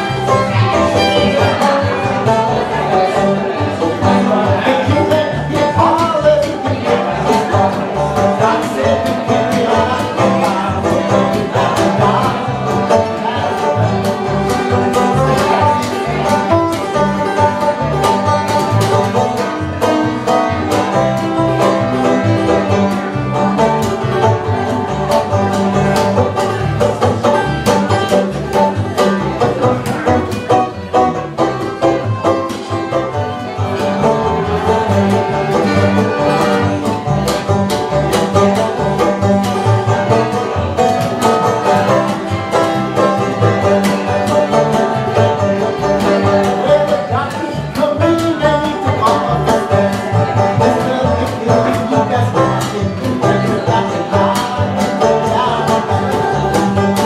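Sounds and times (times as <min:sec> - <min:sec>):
fiddle melody: 0:00.0 - 0:57.0
rapid banjo picking: 0:00.0 - 0:57.0
upright bass plucking: 0:00.0 - 0:57.0.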